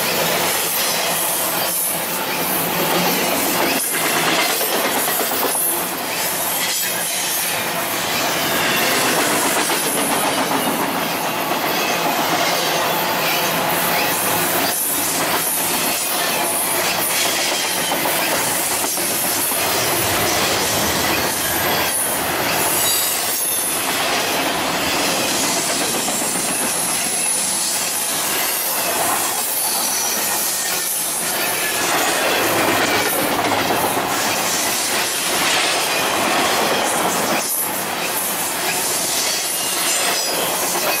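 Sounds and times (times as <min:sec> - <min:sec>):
freight cars rolling on rails: 0:00.0 - 0:41.0.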